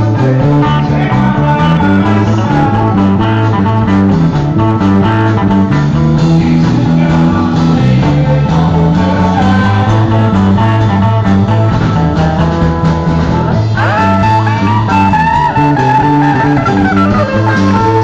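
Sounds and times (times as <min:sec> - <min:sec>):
bass line: 0:00.0 - 0:18.0
live blues-rock band playing: 0:00.0 - 0:18.0.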